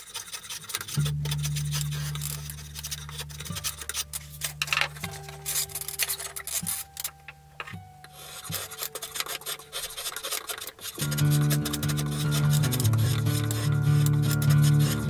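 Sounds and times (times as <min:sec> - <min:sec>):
rasp scraping wood: 0:00.0 - 0:15.0
soft background music tones: 0:00.6 - 0:15.0.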